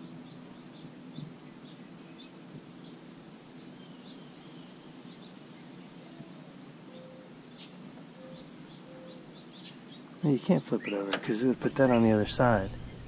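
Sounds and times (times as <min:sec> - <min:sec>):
small birds chirping: 0:00.0 - 0:13.0
steady low background noise: 0:00.0 - 0:13.0.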